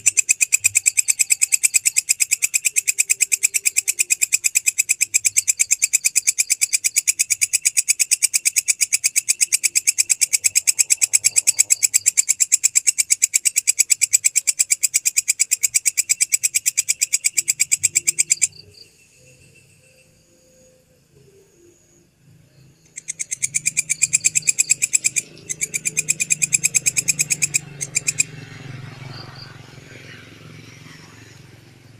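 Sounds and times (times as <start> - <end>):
faint distant insect chirps: 0.0 - 31.9
grasshopper stridulating: 0.0 - 31.9.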